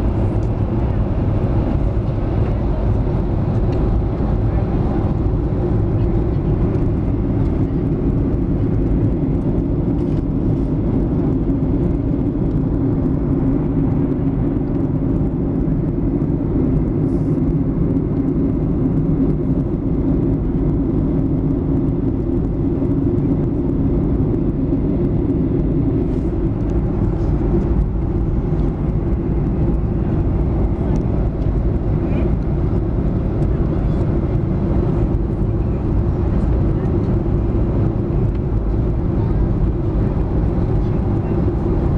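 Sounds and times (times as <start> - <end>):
airliner cabin engine hum: 0.0 - 41.9.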